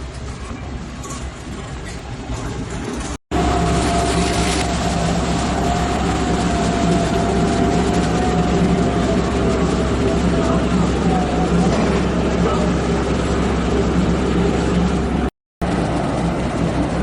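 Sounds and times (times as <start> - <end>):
drilling rig engine drone: 0.0 - 17.0
high whine: 2.6 - 17.0.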